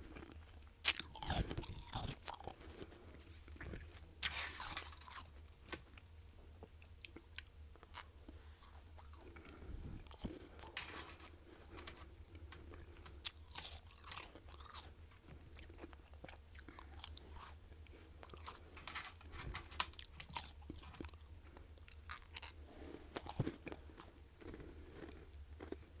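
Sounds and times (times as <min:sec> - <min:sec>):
chewing crunchy frost: 0:00.1 - 0:05.4, 0:06.0 - 0:26.0.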